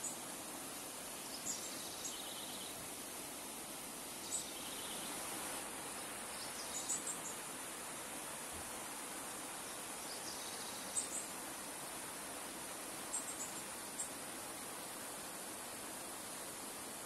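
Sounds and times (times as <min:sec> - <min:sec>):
river water flowing over stones: 0:02.7 - 0:17.0.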